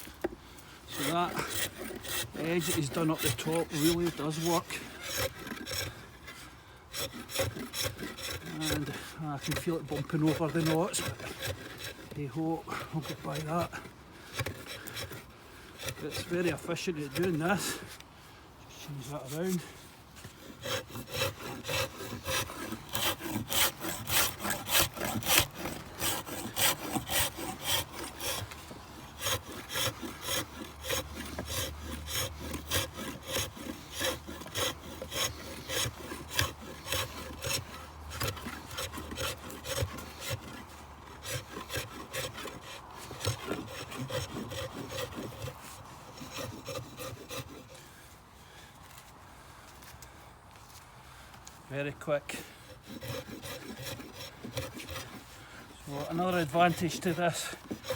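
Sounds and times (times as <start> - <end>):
axe scraping bark off stick: 0.0 - 18.1, 18.7 - 47.9, 52.4 - 57.9.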